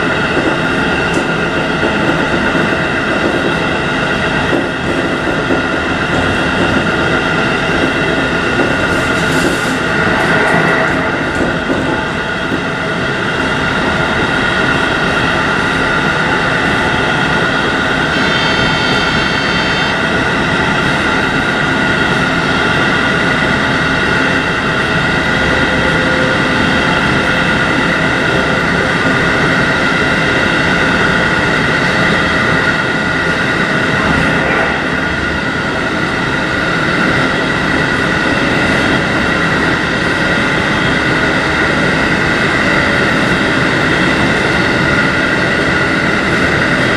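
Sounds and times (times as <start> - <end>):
train wheels rumbling: 0.0 - 46.9.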